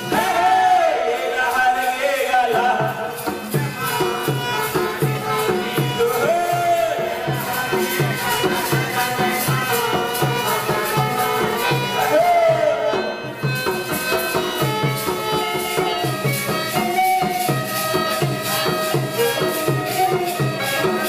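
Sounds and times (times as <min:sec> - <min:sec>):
jingling percussion: 0:00.0 - 0:21.0
drum beat: 0:02.6 - 0:21.0.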